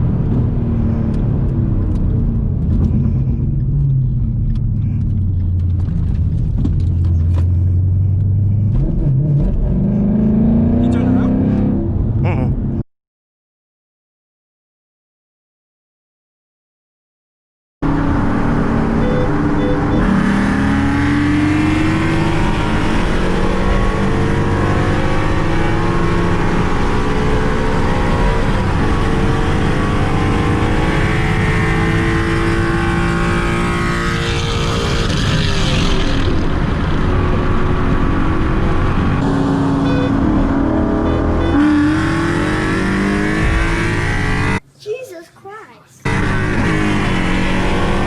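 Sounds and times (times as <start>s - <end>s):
car engine at full throttle: 0.0s - 12.8s, 17.8s - 44.6s, 46.0s - 48.0s
wind and road noise: 0.0s - 12.8s, 17.8s - 45.1s, 46.0s - 48.0s.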